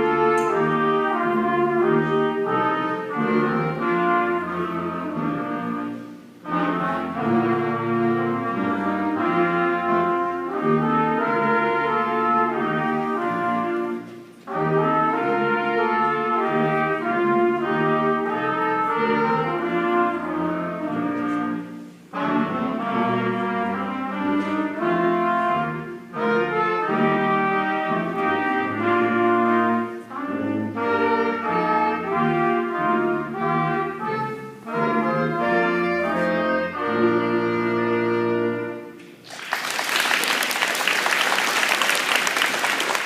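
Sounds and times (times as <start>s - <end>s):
wind band playing: 0.0s - 43.0s.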